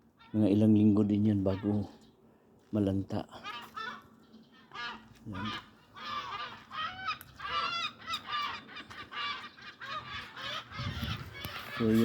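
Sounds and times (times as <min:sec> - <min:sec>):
seagulls calling: 0:00.0 - 0:02.4, 0:03.0 - 0:12.0.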